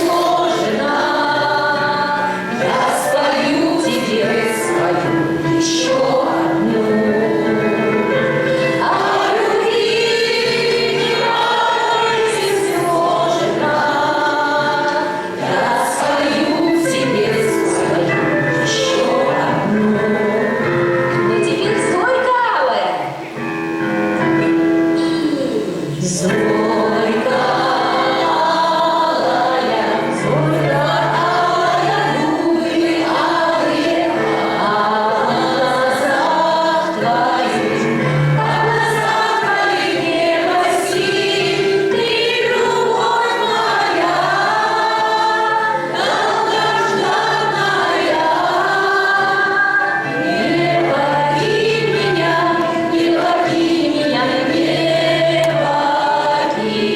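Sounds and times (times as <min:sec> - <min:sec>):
choir singing: 0:00.0 - 0:21.8, 0:25.0 - 0:56.9.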